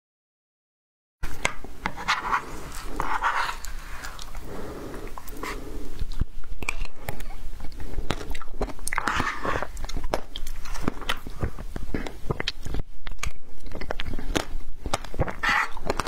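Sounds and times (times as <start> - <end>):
ice crunched and chewed: 1.3 - 16.0.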